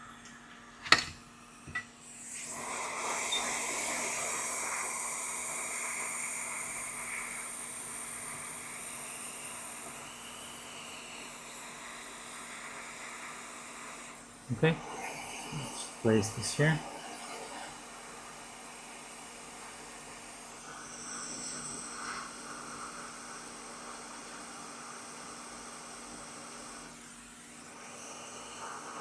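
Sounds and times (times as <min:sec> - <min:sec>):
hot air station hissing: 0:00.8 - 0:29.0.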